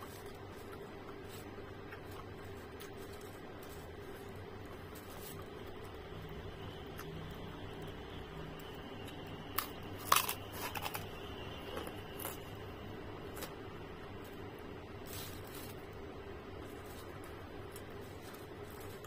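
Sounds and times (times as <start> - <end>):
cracker crunching: 0.0 - 7.9, 8.6 - 12.6, 15.0 - 19.0
low hum: 0.0 - 19.0.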